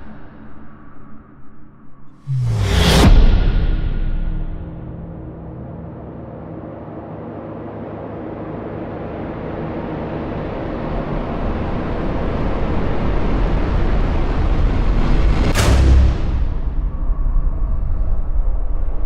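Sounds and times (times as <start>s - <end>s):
low rumbling whoosh: 2.1s - 19.0s.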